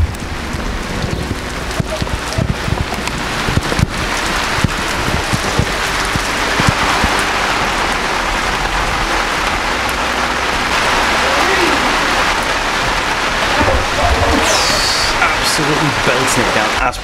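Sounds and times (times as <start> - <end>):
rain on leaves: 0.0 - 17.0
sharp raindrop hits: 0.0 - 17.0.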